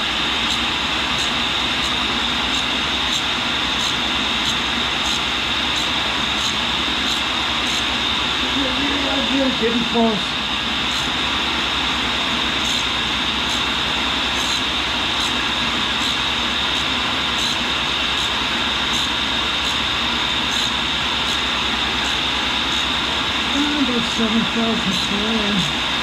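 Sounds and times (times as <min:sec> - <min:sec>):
grinder hissing: 0:00.0 - 0:26.0.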